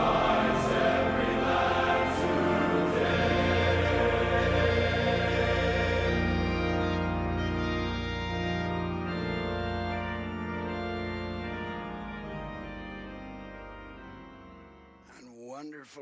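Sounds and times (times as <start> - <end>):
organ sustained chords: 0.0 - 16.0.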